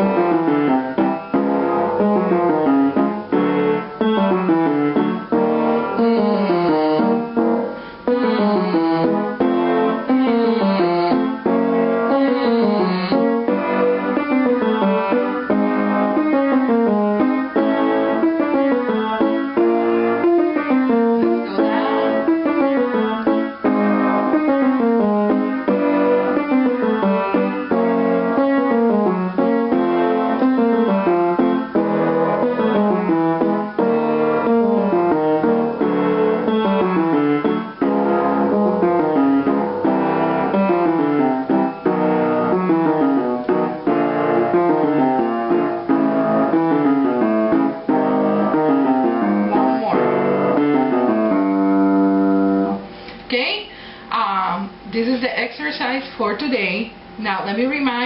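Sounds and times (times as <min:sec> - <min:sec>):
piano playing falling scale: 0:00.0 - 0:52.8.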